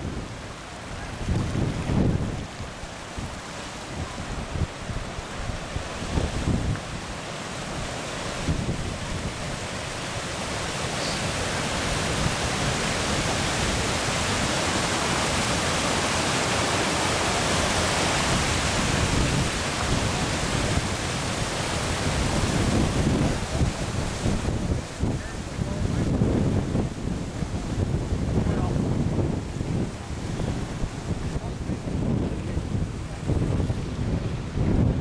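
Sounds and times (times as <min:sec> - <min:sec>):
wind buffeting microphone: 0:00.0 - 0:15.6, 0:17.5 - 0:35.0
water rushing through dam: 0:00.0 - 0:35.0.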